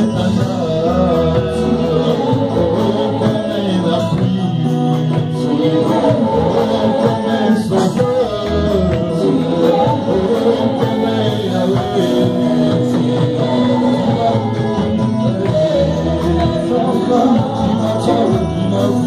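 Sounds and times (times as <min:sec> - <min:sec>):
gospel band playing: 0:00.0 - 0:19.0
voices singing: 0:00.0 - 0:19.0.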